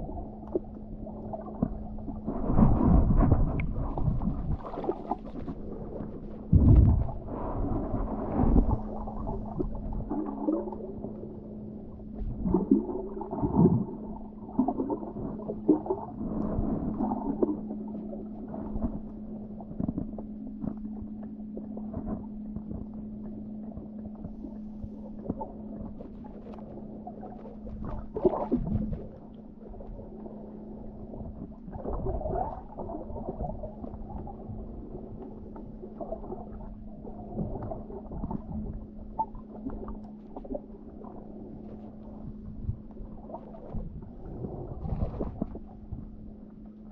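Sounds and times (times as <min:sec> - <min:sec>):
underwater gurgles: 0:00.0 - 0:46.9
underwater low hum: 0:00.0 - 0:46.9.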